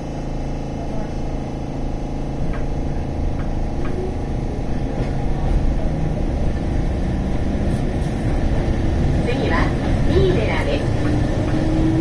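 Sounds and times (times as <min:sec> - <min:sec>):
electric train equipment humming: 0:00.0 - 0:12.0.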